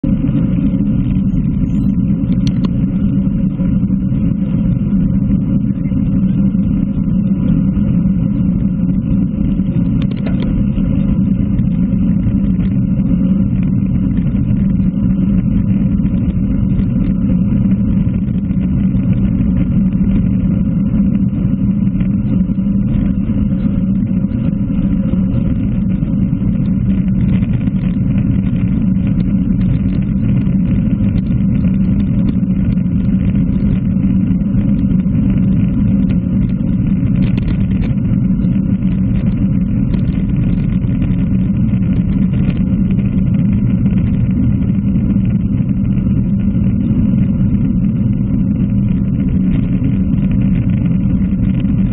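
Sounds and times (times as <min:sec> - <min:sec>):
bicycle tyre noise on road: 0:00.0 - 0:51.9
wind rumble on microphone: 0:00.0 - 0:51.9.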